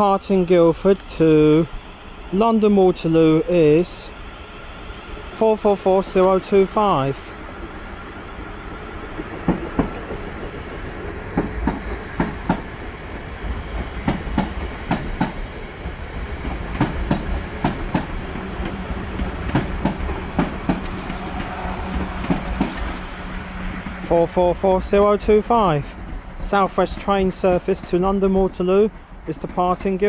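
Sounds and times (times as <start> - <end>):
train low rumble: 0.0 - 30.0.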